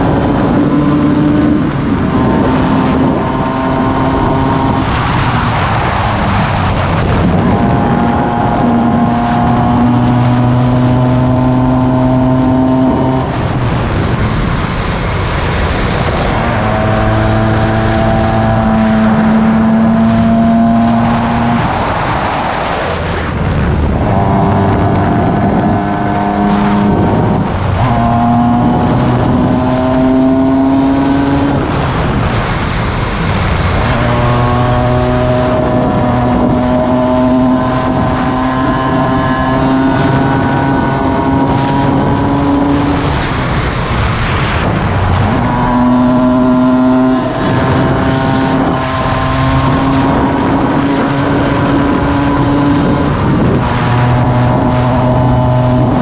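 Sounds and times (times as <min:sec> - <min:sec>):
two-stroke motorcycle engine revving: 0:00.0 - 0:22.1, 0:23.2 - 0:56.0
wind rushing: 0:00.0 - 0:56.0.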